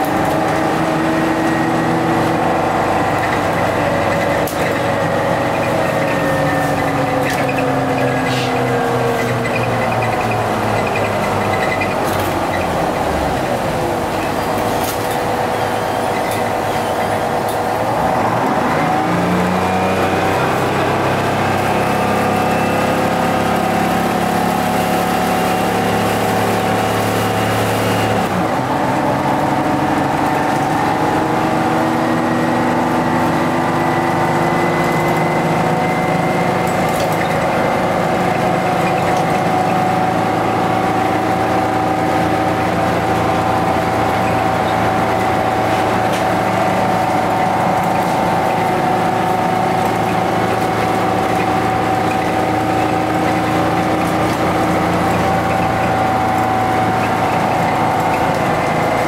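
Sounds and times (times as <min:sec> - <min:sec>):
bus diesel engine pulling: 0:00.0 - 0:59.0.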